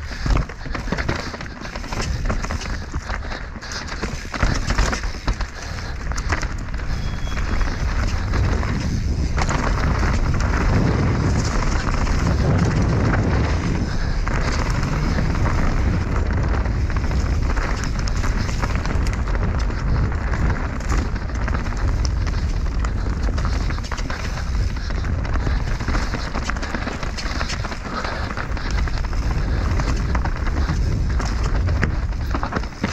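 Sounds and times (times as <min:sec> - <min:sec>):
bike rattling over bumps: 0:00.0 - 0:32.9
tyres rolling over dirt and stones: 0:00.0 - 0:32.9
wind rumbling on microphone: 0:00.0 - 0:32.9.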